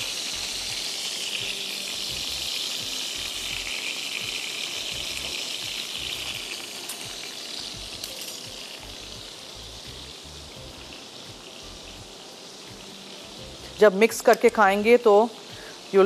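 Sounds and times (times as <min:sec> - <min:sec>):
kebabs sizzling in oil: 0:00.0 - 0:16.0.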